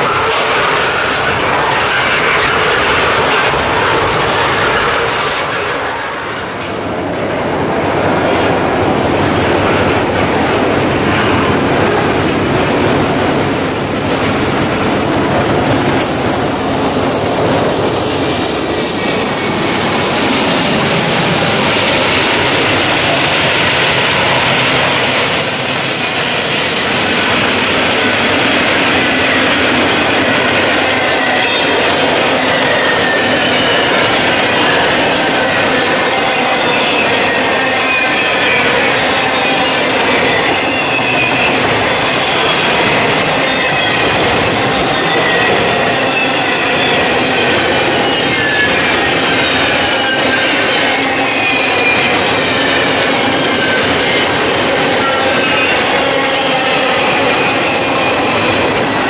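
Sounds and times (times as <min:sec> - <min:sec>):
high wheel squeal: 0:00.0 - 0:59.0
steel wheels clattering on rails: 0:00.0 - 0:59.0.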